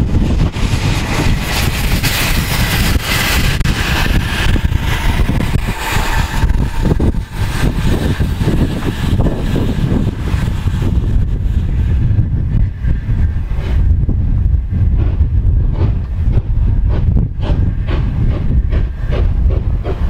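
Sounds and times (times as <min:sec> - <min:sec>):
freight wagon wheels on rails: 0:00.0 - 0:20.0
wind rumble on microphone: 0:00.0 - 0:20.0.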